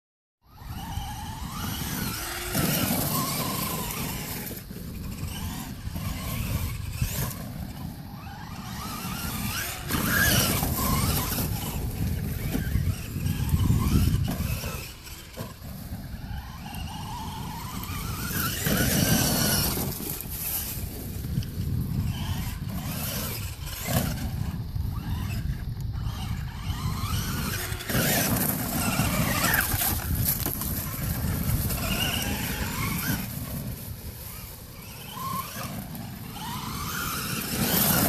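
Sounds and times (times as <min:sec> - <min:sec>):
electric motor whining: 0:00.5 - 0:38.0.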